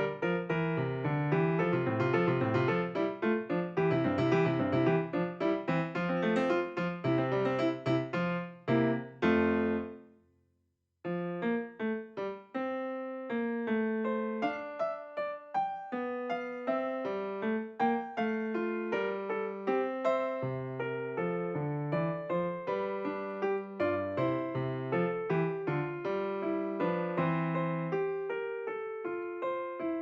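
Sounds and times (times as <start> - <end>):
piano music: 0.0 - 10.1, 11.1 - 30.0.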